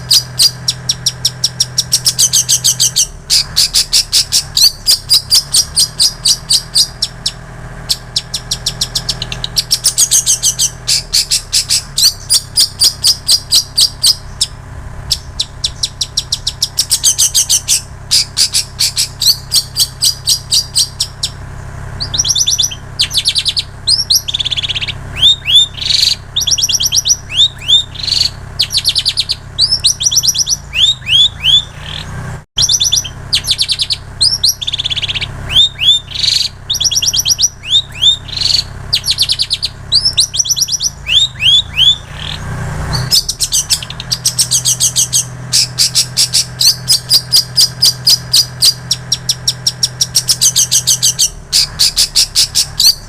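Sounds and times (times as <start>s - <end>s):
shrike singing trills and whistles: 0.0s - 53.0s
steady low hum: 0.0s - 53.0s.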